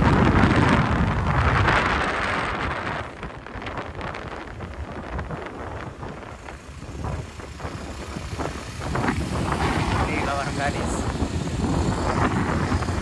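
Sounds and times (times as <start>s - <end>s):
motorcycle engine rumble: 0.0s - 13.0s
wind buffeting microphone: 0.0s - 13.0s.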